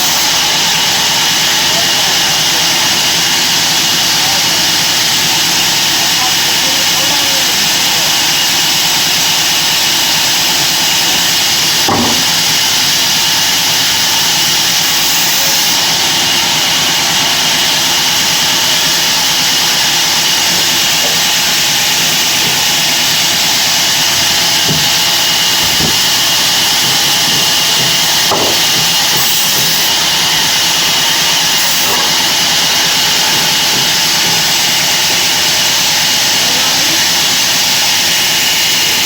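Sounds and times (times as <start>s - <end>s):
bandsaw running with high hiss: 0.0s - 39.0s.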